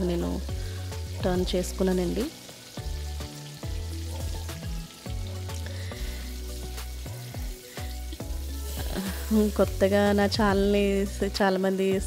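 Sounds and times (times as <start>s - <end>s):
background music with bass and chords: 0.0s - 12.0s
fish sizzling in oil: 0.0s - 12.0s.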